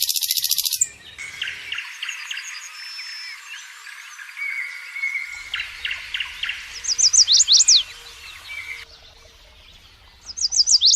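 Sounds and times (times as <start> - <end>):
birds chirping and singing: 0.0 - 10.9.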